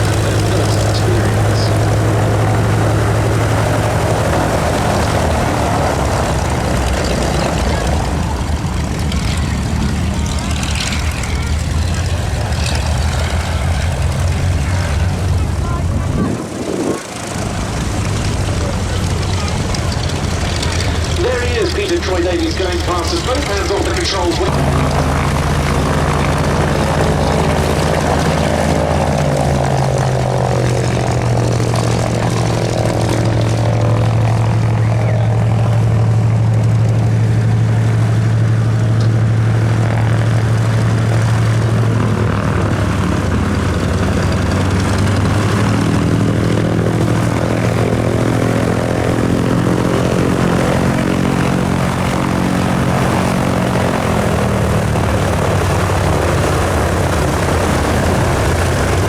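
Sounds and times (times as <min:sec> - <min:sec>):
autogyro engine droning past: 0:00.0 - 0:59.0.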